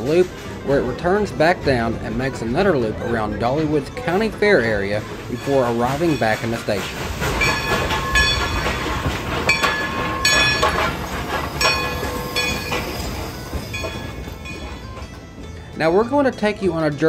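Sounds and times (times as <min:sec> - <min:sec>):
low train rumble: 0:00.0 - 0:17.0
steel wheels squealing: 0:00.0 - 0:17.0.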